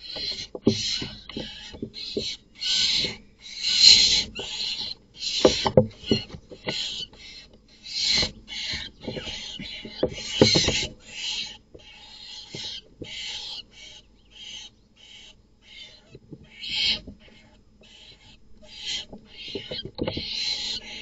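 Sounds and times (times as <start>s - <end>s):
owls screeching: 0.0s - 21.0s.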